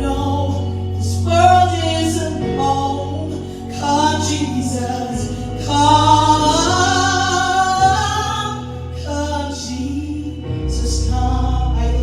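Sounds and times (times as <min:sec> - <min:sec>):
instrumental backing with bass: 0:00.0 - 0:12.0
person singing gospel song: 0:00.0 - 0:12.0.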